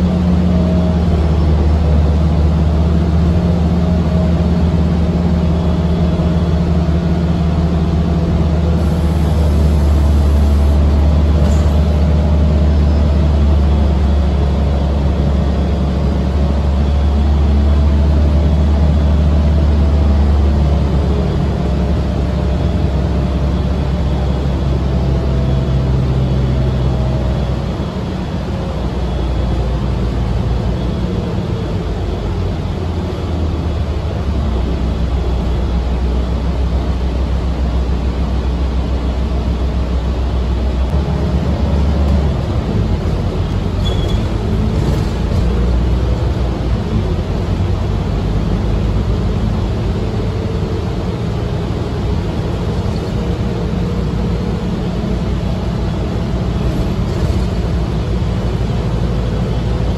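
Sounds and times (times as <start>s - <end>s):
bus engine droning: 0.0s - 59.9s
road and body rumble: 0.0s - 59.9s.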